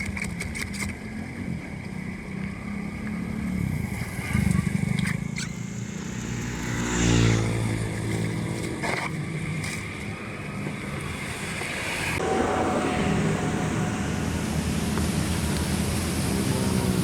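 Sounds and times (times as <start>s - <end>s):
engine running: 1.6s - 17.0s.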